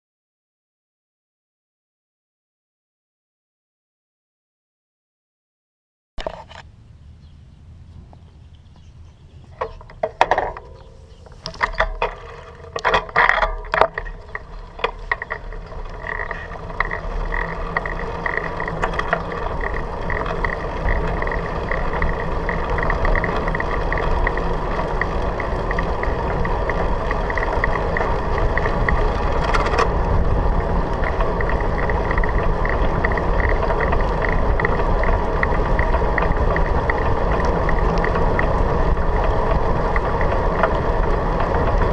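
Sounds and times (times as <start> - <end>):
bicycle clicks and knocks: 6.2 - 6.7, 8.0 - 41.9
tyre rumble: 7.8 - 41.9
light regular ticking: 7.9 - 41.9.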